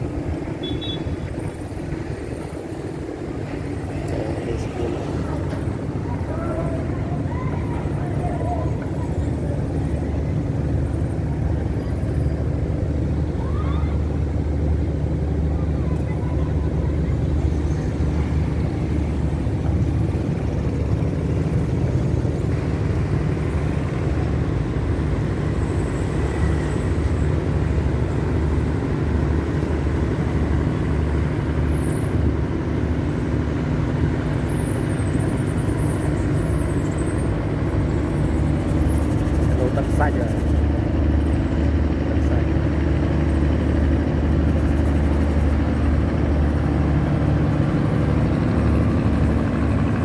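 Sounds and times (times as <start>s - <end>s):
heavy traffic engine rumble: 0.0s - 50.0s.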